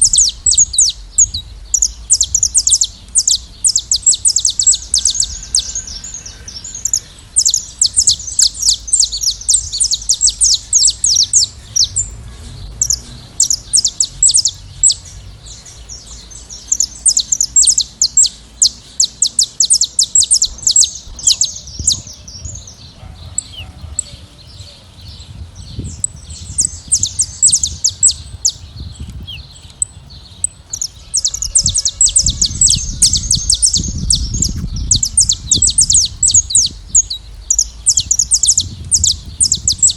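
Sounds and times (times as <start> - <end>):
finches chirping: 0.0 - 39.9
low rumble: 0.0 - 39.9.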